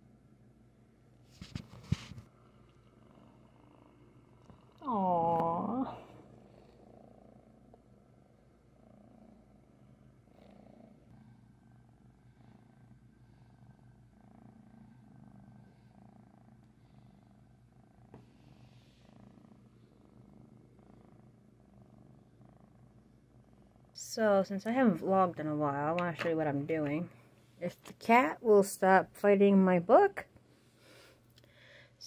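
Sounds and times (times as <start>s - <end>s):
kitten purring: 0.8s - 28.6s.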